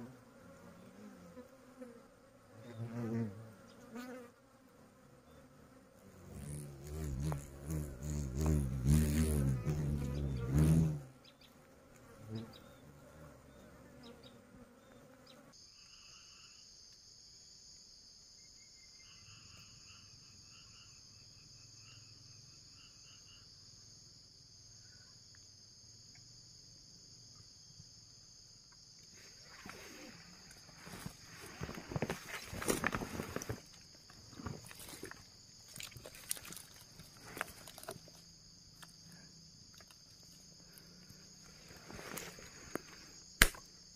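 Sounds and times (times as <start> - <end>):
insects buzzing drone: 0.0 - 43.9.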